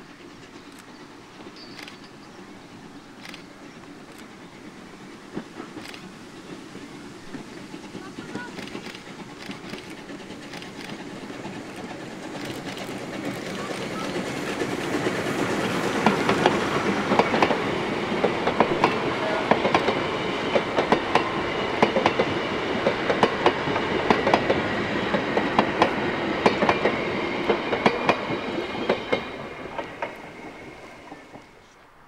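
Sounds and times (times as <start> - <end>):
train wheels clicking over rail joints: 0.0 - 31.8.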